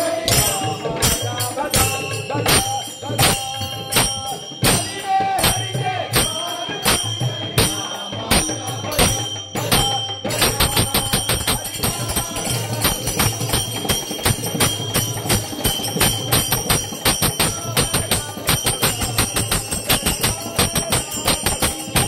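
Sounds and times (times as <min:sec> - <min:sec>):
small hand cymbals: 0:00.0 - 0:22.0.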